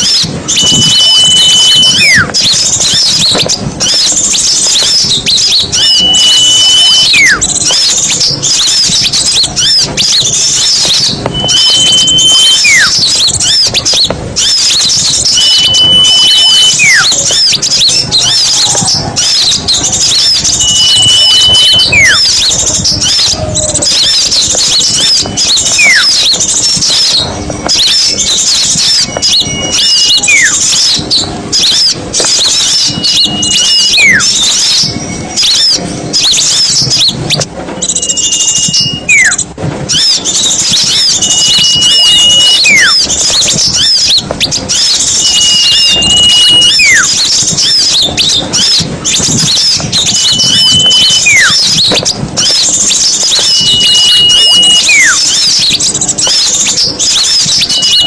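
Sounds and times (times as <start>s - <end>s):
bird whistle with falling slur: 0.0s - 58.0s
songbirds chirping and twittering: 0.0s - 58.0s.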